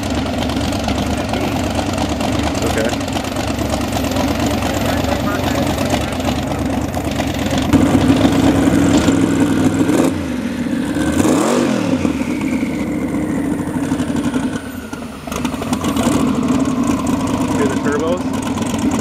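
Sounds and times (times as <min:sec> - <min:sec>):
boat engine idling: 0:00.0 - 0:11.2, 0:11.9 - 0:19.0.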